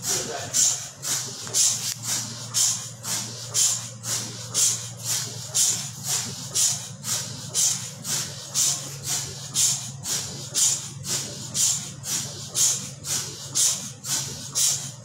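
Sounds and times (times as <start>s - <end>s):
rhythmic hissing chuff: 0.0s - 15.0s
steady low hum: 0.0s - 15.0s.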